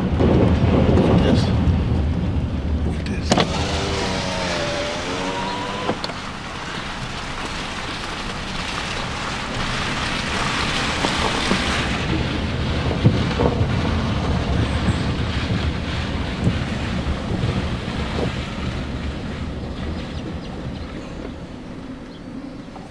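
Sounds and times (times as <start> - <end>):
tyre and wind noise: 0.0 - 22.9.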